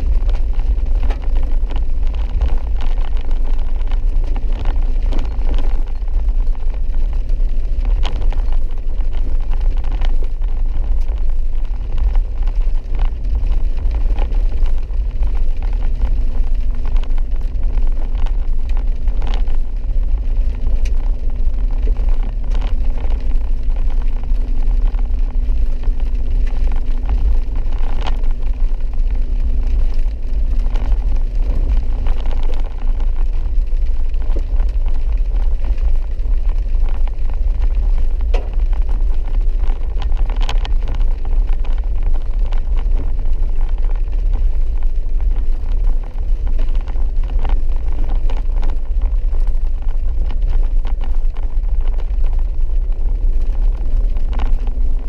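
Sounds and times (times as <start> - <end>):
clicks and knocks from rough road: 0.0 - 55.0
engine and tyres rumbling: 0.0 - 55.0.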